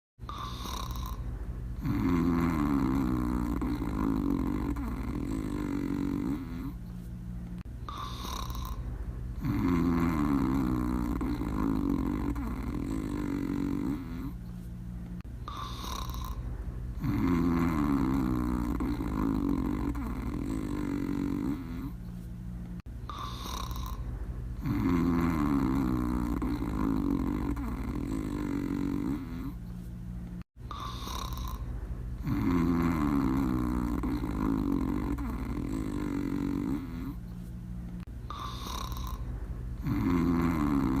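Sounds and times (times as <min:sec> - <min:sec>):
dog snoring: 0:00.2 - 0:07.0, 0:07.6 - 0:14.6, 0:15.2 - 0:22.0, 0:22.8 - 0:29.8, 0:30.6 - 0:37.3, 0:38.0 - 0:41.0
steady low hum: 0:00.2 - 0:41.0.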